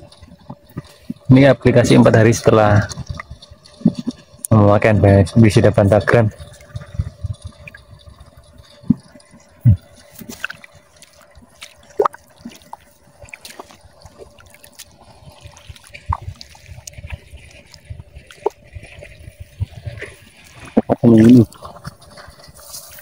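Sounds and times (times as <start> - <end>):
water dripping and splashing: 0.0 - 23.0.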